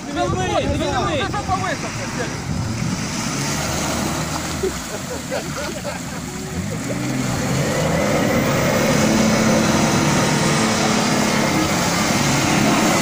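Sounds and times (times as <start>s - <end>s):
driving through mud and water: 0.0s - 13.0s
off-road vehicle engine revving: 0.8s - 13.0s.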